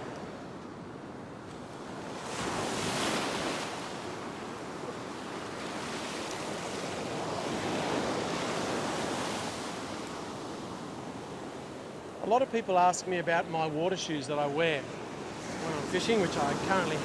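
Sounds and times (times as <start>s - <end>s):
ocean surf breaking on a beach: 0.0s - 17.0s.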